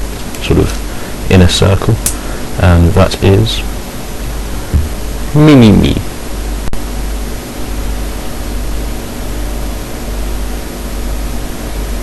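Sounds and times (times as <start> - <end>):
faint low hum: 0.0 - 12.0
steady hiss: 0.0 - 12.0.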